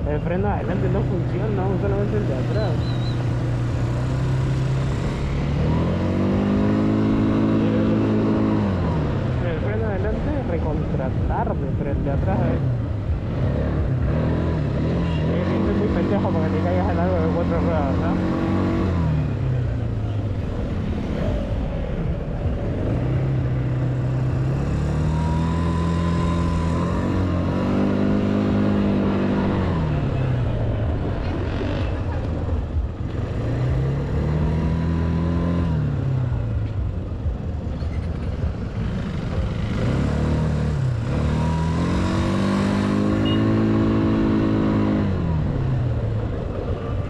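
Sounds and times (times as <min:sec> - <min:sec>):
quad bike engine revving: 0:00.6 - 0:10.3, 0:12.2 - 0:19.8, 0:22.6 - 0:36.4, 0:38.0 - 0:47.0
steady rush of noise: 0:03.3 - 0:42.9.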